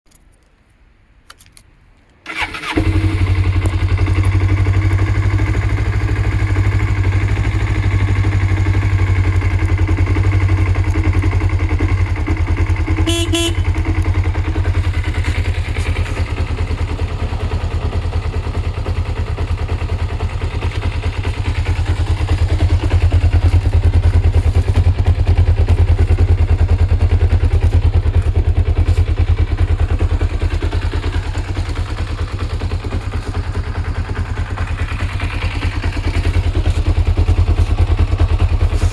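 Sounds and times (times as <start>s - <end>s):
motorcycle engine starting and idling: 2.2s - 38.9s.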